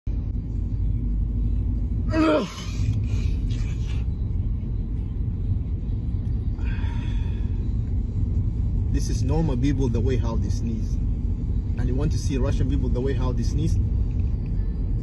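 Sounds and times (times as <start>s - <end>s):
steady low rumble: 0.1s - 15.0s.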